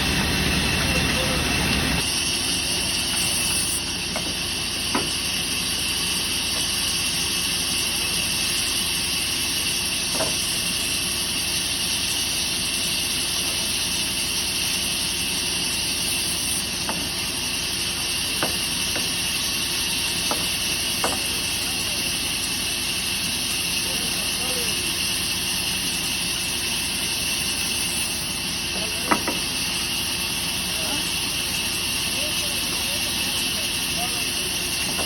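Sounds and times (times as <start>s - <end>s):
workshop machinery hissing: 0.0s - 35.0s.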